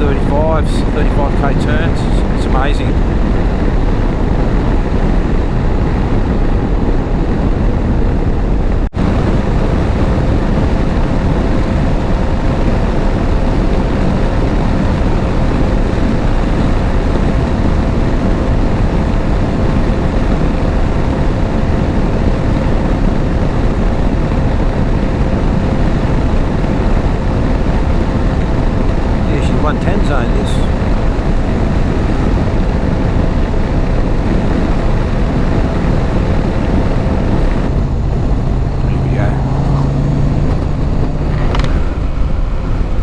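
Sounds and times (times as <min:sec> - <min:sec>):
motorcycle engine drone: 0:00.0 - 0:43.0
wind rushing on microphone: 0:00.0 - 0:43.0.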